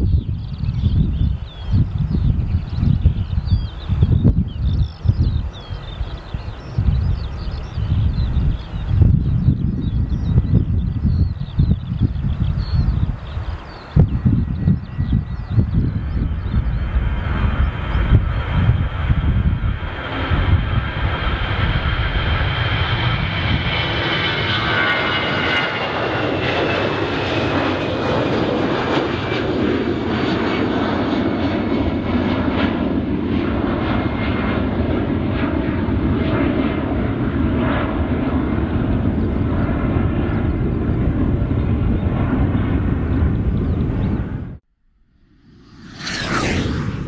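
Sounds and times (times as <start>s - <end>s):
jet engines at takeoff: 0.0s - 47.0s.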